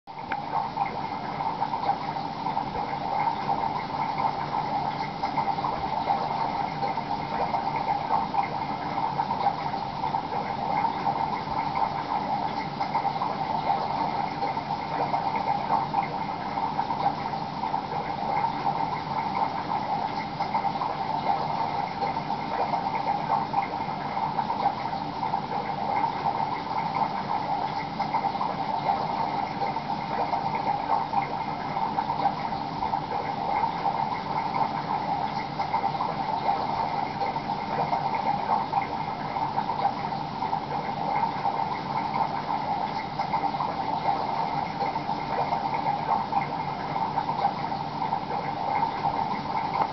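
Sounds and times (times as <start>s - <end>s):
aquarium water bubbling: 0.1s - 49.9s.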